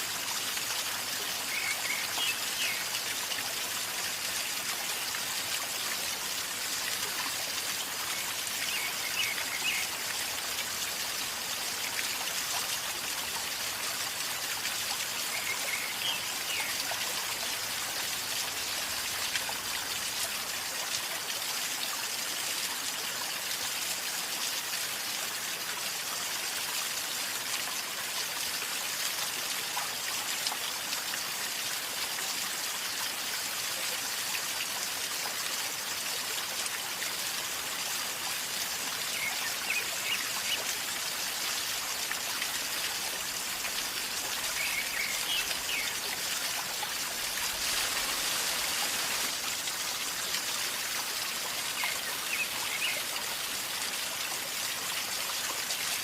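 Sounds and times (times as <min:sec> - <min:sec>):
river flowing and gurgling: 0:00.0 - 0:56.0.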